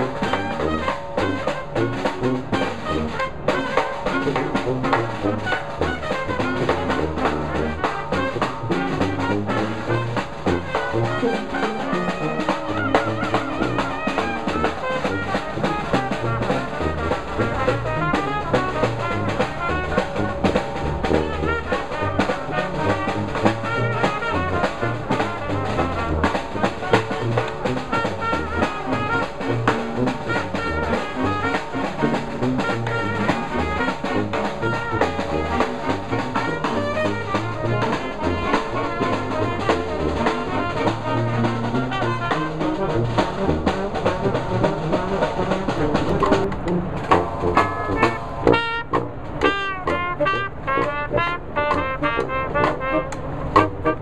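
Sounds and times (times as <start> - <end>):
brass band playing jazz: 0.0 - 54.0
snare drum: 0.0 - 54.0
sousaphone bass line: 0.1 - 51.9.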